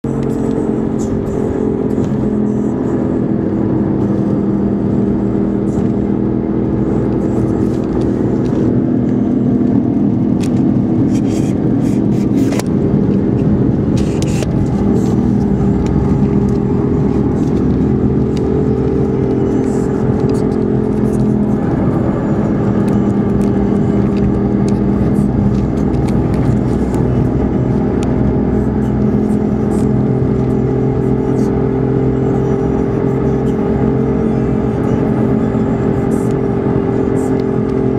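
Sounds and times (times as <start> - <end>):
car engine and road hum: 0.0 - 37.9.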